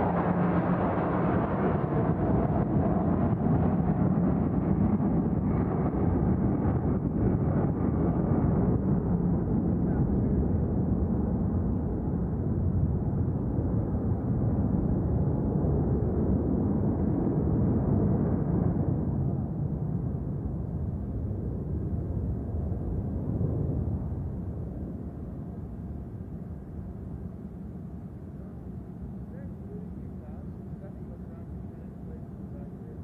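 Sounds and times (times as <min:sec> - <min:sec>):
distant jet aircraft rumble: 0:00.0 - 0:33.0.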